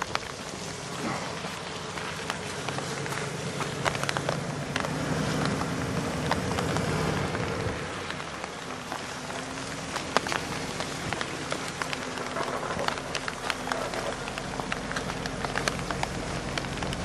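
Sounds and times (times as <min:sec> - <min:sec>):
crackle of small sharp ticks: 0:00.0 - 0:17.0
engine running at low speed: 0:00.0 - 0:17.0.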